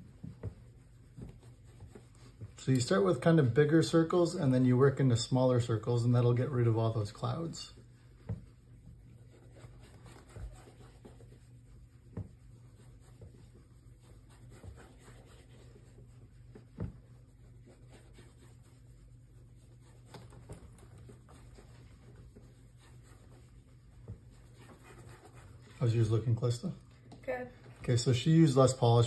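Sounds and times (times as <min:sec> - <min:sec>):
cloth rubbing on leather: 0:00.0 - 0:29.0
low steady hum: 0:00.0 - 0:29.0.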